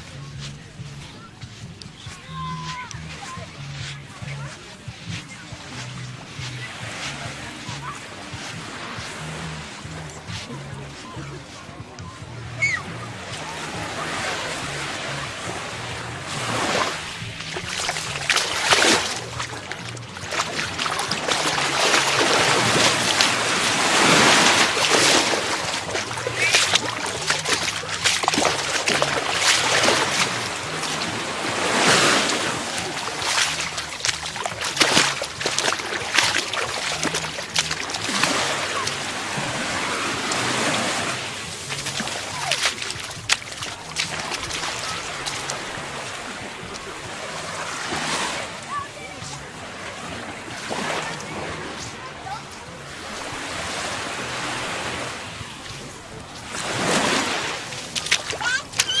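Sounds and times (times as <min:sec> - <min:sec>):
small waves breaking on sand: 0:00.0 - 0:59.0.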